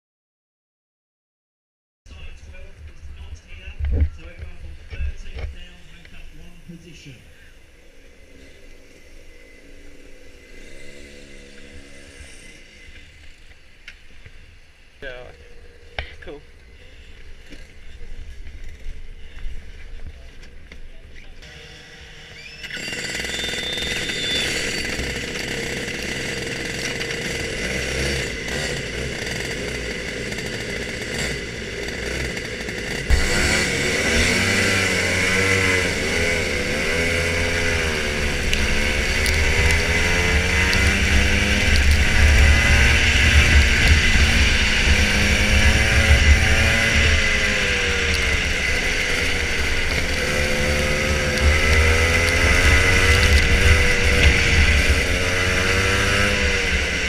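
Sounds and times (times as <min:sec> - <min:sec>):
kart engine revving: 0:02.2 - 0:19.4, 0:21.1 - 0:57.0.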